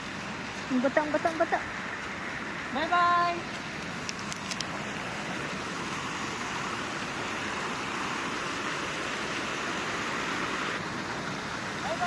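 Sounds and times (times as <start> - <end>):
water running in fountain pool: 0.0 - 12.0.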